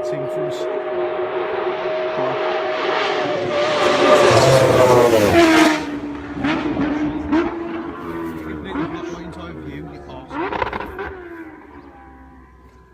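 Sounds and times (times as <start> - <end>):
motorcycle passing at speed: 0.0 - 12.9.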